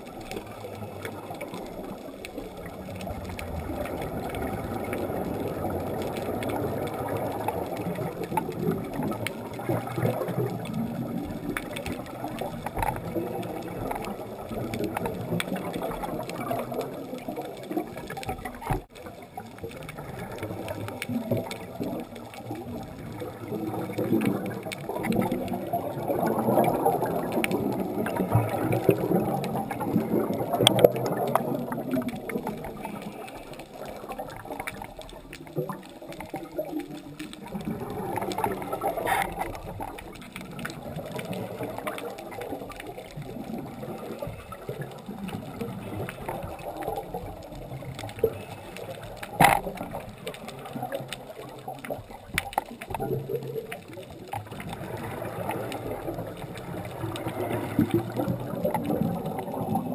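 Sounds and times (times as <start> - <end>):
underwater bubbling of exhaled air: 0.0 - 59.9.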